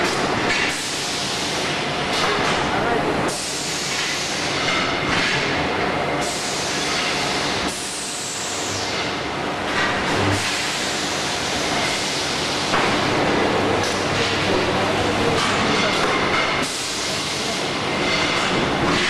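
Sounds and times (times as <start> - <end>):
roll forming machine rumble and hiss: 0.0 - 19.0.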